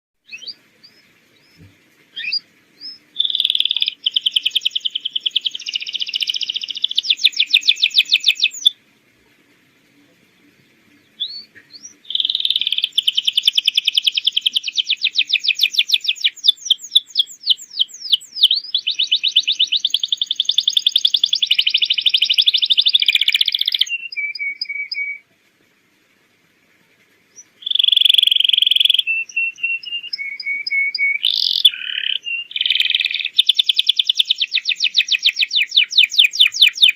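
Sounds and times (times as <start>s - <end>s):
canary singing: 0.2s - 9.4s, 10.2s - 25.2s, 27.3s - 36.9s.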